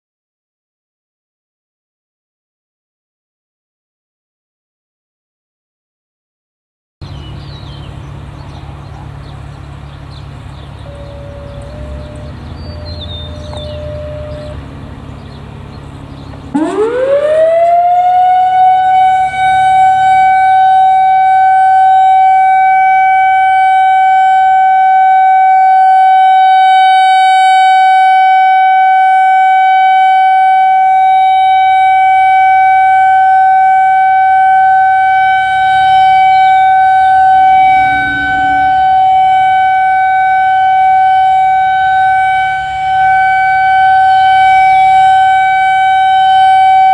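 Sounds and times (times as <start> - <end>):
outdoor warning siren: 7.0 - 46.9.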